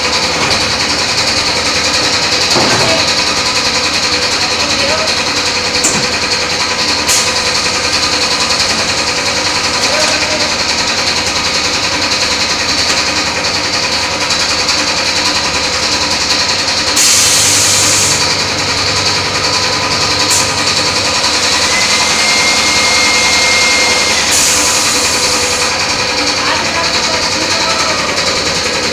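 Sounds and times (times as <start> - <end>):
machine hum and whine: 0.0 - 28.9.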